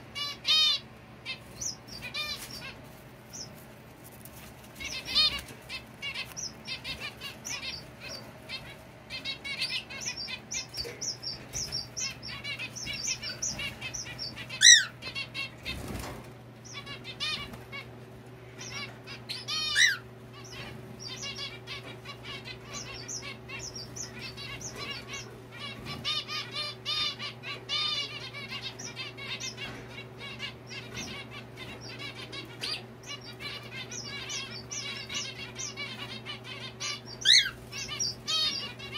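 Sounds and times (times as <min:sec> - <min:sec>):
finches chattering calls: 0:00.2 - 0:03.5, 0:04.8 - 0:16.0, 0:18.6 - 0:38.9.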